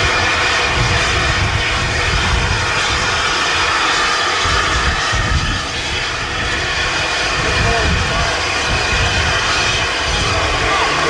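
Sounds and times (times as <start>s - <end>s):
low rumbling: 0.0s - 11.0s.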